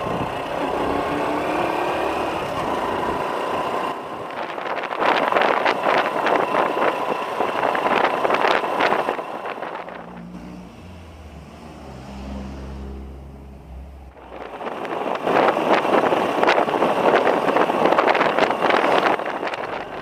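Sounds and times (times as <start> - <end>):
wind noise: 0.0 - 11.5, 12.6 - 20.0
motorcycle engine: 0.0 - 20.0.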